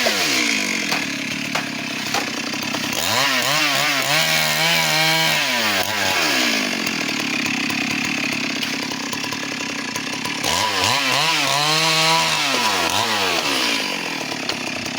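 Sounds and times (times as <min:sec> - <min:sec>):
chainsaw cutting wood: 0:00.0 - 0:14.9.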